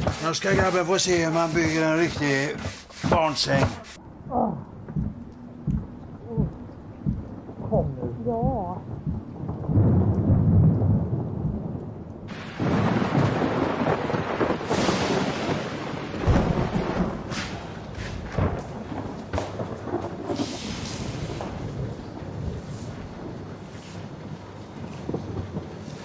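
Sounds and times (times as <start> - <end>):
heavy rain: 3.8 - 26.0
thunder rumbling: 3.9 - 26.0.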